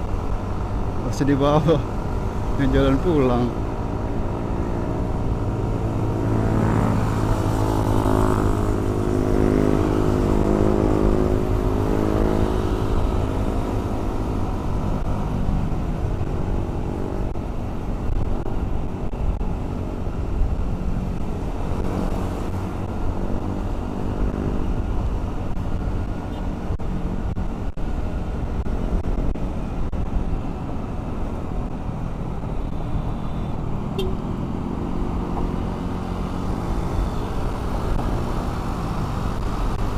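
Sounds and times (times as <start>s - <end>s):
surrounding vehicles: 0.0s - 39.9s
wind rushing over microphone: 0.0s - 39.9s.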